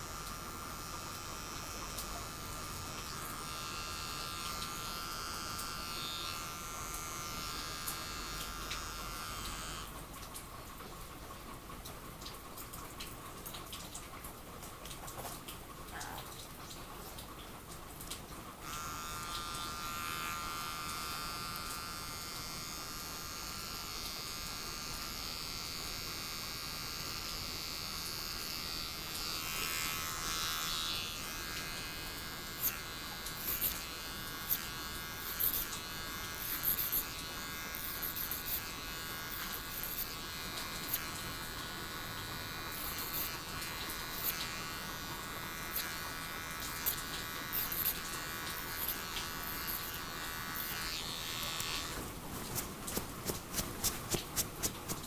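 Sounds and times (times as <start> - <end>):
electric hair clippers buzzing: 0.0 - 10.2, 18.6 - 55.0.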